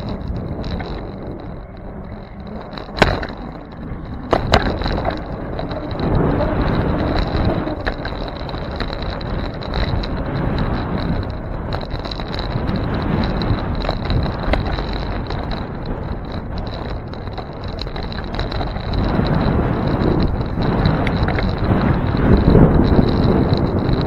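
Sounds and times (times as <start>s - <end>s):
bicycle tyre and wind noise: 0.0s - 24.0s
bike jolting over bumps: 0.0s - 24.0s.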